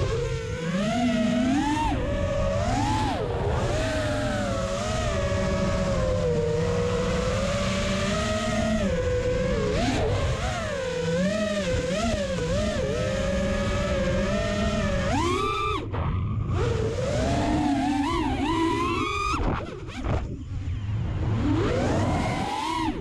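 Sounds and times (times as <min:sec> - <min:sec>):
quadcopter propellers whining: 0:00.0 - 0:23.0.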